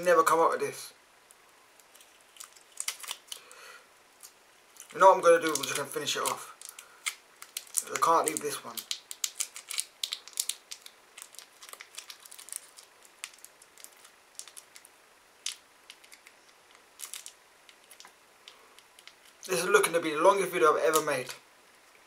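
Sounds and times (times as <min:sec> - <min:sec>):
sweet wrapper crinkling: 0:01.2 - 0:19.8.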